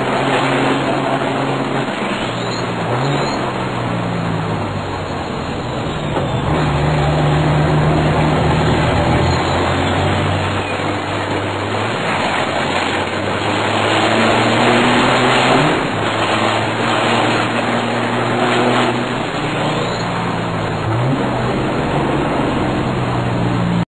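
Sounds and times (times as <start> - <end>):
truck diesel engine roaring: 0.0 - 23.8.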